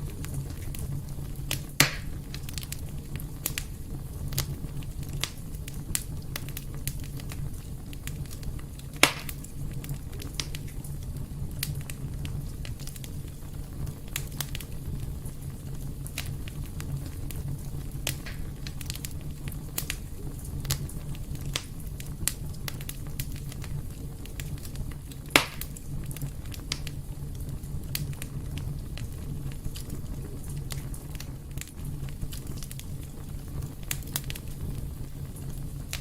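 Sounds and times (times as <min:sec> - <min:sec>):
fire crackling and popping: 0:00.0 - 0:36.0
low rumble of flames: 0:00.0 - 0:36.0.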